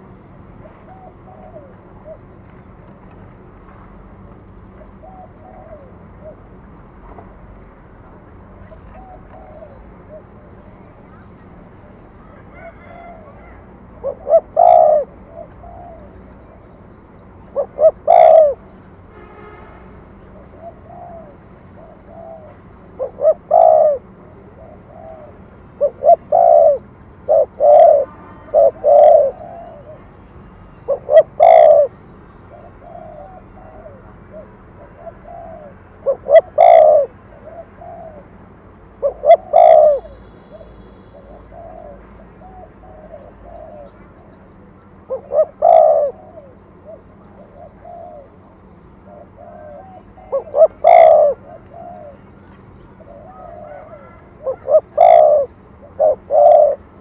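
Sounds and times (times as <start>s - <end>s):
dove cooing: 0.0s - 2.9s, 4.4s - 6.6s, 8.5s - 18.8s, 20.2s - 30.2s, 30.8s - 57.0s.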